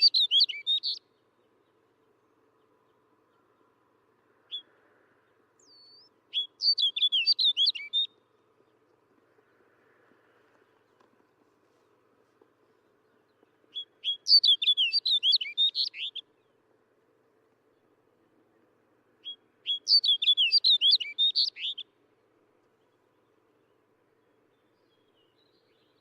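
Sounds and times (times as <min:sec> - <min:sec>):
snow bunting singing: 0:00.0 - 0:03.7, 0:04.5 - 0:16.8, 0:17.4 - 0:26.0.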